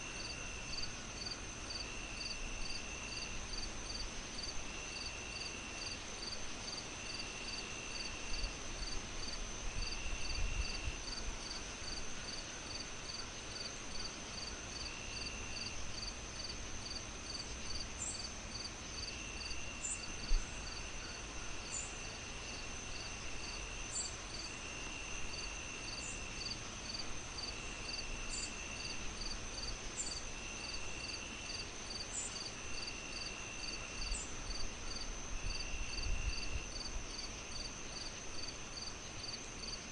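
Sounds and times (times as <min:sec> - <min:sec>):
insects trilling: 0:00.0 - 0:39.8
insect chirps: 0:00.0 - 0:39.9.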